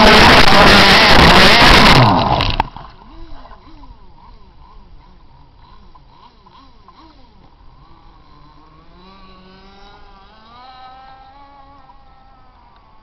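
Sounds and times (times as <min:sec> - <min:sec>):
two-stroke boat engine revving: 0:00.0 - 0:13.0.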